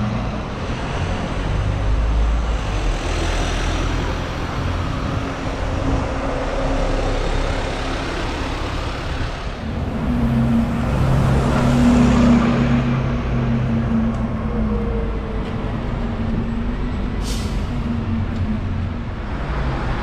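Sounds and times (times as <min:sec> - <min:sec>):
buses driving past: 0:00.0 - 0:20.0
street traffic: 0:00.0 - 0:20.0.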